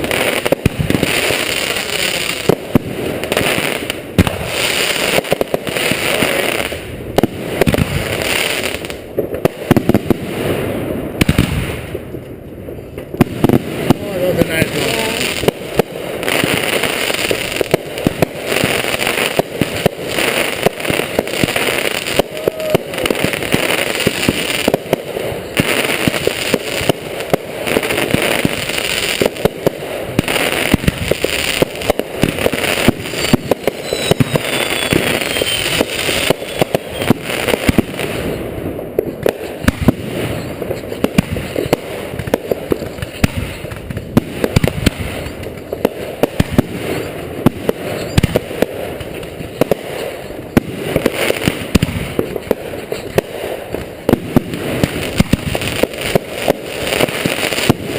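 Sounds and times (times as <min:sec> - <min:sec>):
fireworks bursting and crackling: 0:00.0 - 0:57.9.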